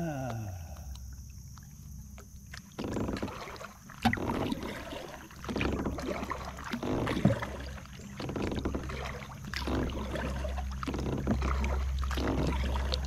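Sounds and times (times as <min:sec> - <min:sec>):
paddle splashing water: 0:00.2 - 0:13.0.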